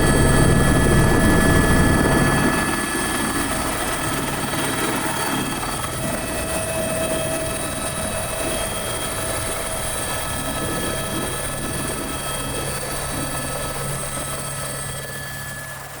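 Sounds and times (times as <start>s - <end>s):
helicopter engine whine: 0.0s - 16.0s
helicopter rotor noise: 0.0s - 16.0s.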